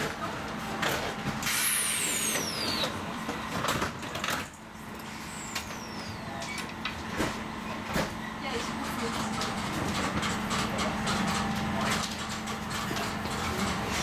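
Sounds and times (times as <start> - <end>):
tram running with rail noise: 0.0 - 14.0.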